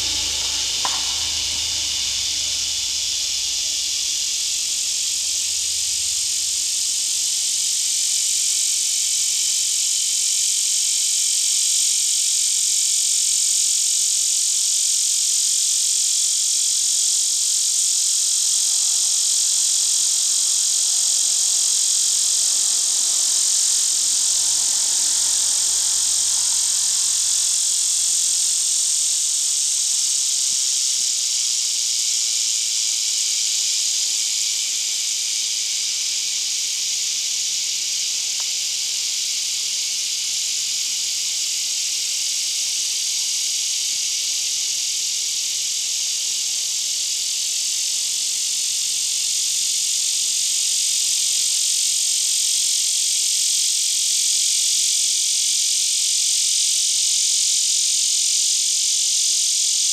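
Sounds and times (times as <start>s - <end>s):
chorus of cicadas: 0.0s - 59.9s
cicada loud steady buzz: 0.0s - 59.9s.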